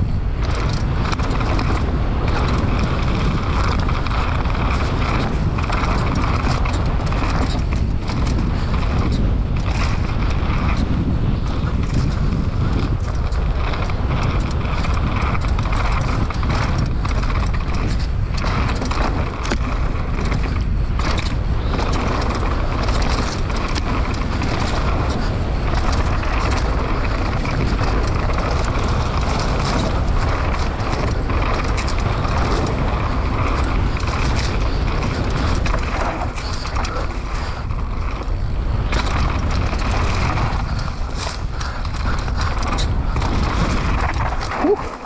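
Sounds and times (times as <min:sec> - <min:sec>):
bike rattling over bumps: 0:00.0 - 0:45.0
tyres crunching on gravel: 0:00.0 - 0:45.0
wind buffeting microphone: 0:00.0 - 0:45.0.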